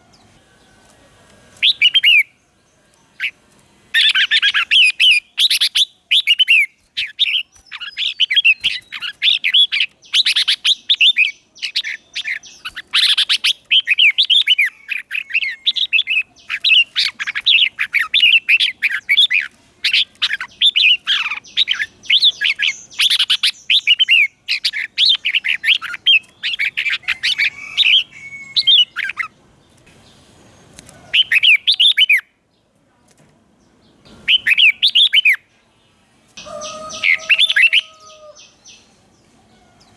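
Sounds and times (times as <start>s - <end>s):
birds singing warbled phrases: 1.5s - 32.5s, 33.7s - 39.9s.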